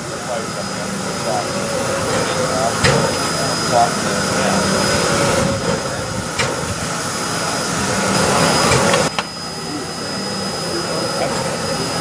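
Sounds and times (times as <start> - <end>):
faint voices: 0.0 - 12.0
steam locomotive hissing: 0.0 - 12.0
thin high whine: 0.0 - 12.0.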